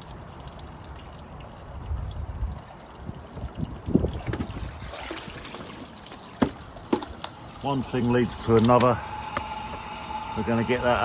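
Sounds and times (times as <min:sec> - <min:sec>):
pond water trickling: 0:00.0 - 0:11.0.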